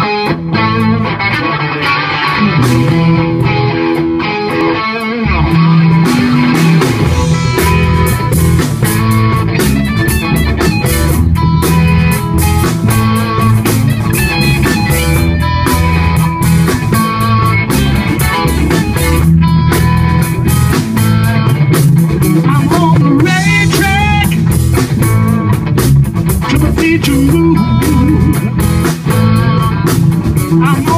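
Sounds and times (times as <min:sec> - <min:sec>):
bass guitar: 0:00.0 - 0:30.9
drums: 0:00.0 - 0:30.9
electric guitar: 0:00.0 - 0:30.9.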